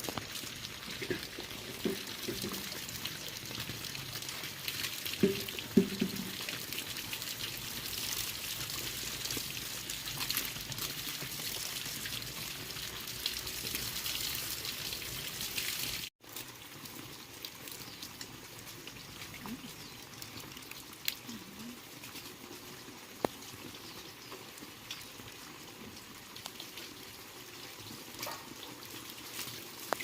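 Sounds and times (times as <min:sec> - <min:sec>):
water pouring and trickling: 0:00.0 - 0:30.0.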